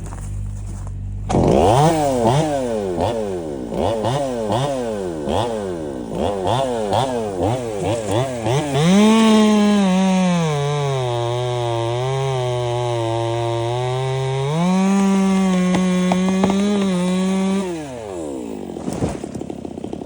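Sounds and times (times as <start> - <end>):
chainsaw engine revving: 0.0 - 20.0.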